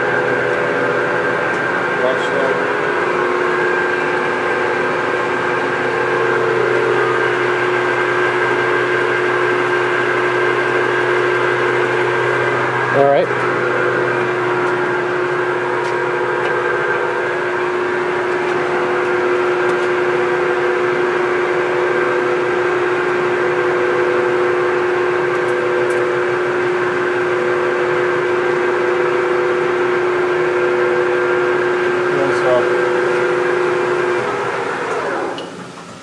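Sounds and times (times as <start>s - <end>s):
lathe running with whine: 0.0s - 36.0s.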